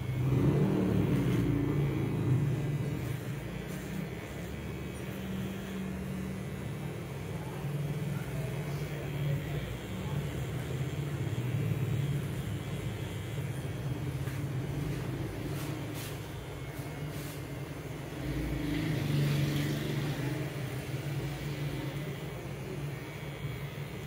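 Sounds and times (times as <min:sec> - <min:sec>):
beard trimmer buzzing: 0:00.0 - 0:24.0.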